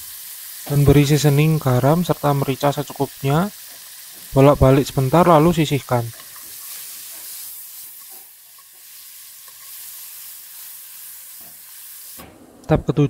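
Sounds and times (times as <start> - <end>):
shrimp sizzling in a pan: 0.0 - 12.2.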